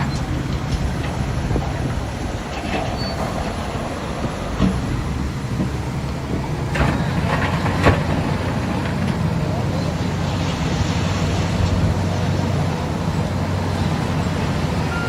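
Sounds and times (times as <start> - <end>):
bulldozer diesel engine: 0.0 - 15.0
steel tracks squealing and clanking: 0.0 - 15.0.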